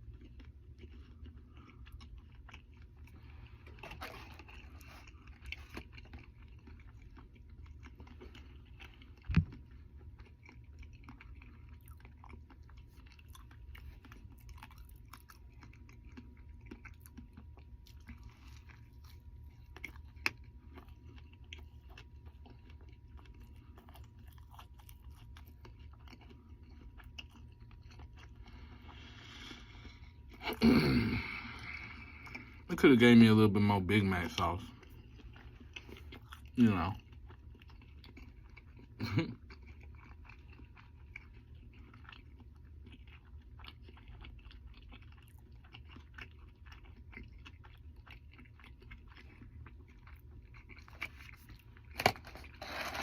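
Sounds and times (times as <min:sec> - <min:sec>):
person chewing: 0:00.0 - 0:32.7, 0:33.6 - 0:53.0
steady low hum: 0:00.0 - 0:53.0.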